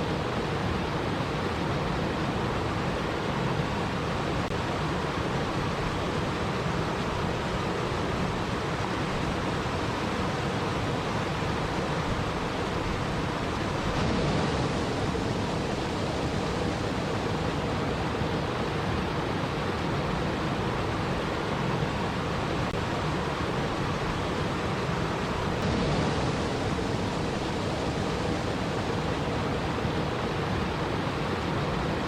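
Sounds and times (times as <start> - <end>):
water rushing: 0.0 - 32.0.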